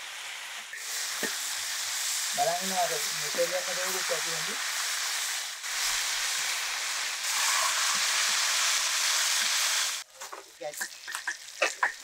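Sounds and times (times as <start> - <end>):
oil sizzling in a wok: 0.0 - 12.0.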